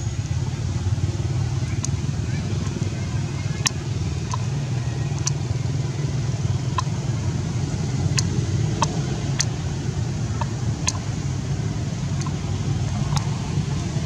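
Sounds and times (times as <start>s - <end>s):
motor rumbling: 0.0s - 14.0s.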